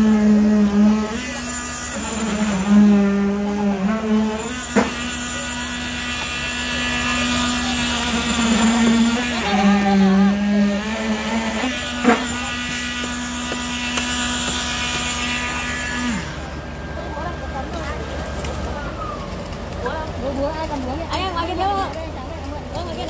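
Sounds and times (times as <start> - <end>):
pump engine running: 0.0 - 23.0.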